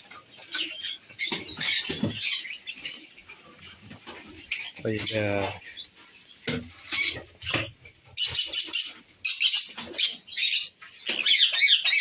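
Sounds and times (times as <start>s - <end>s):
birds chirping shrilly: 0.1s - 12.0s.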